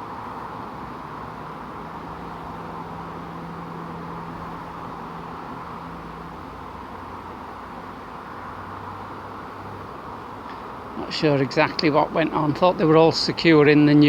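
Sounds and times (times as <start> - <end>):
bee swarm humming: 0.0 - 14.0.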